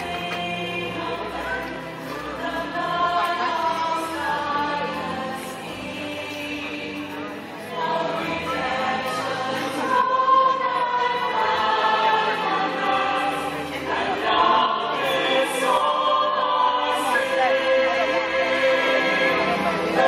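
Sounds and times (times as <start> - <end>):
choir singing gospel: 0.0 - 20.0.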